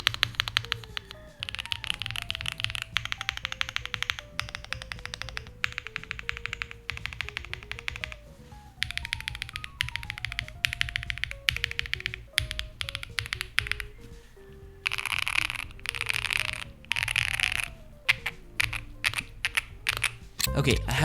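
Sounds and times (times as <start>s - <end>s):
fast typing on mechanical keyboard: 0.0s - 20.4s
soft melodic background music: 0.0s - 21.0s.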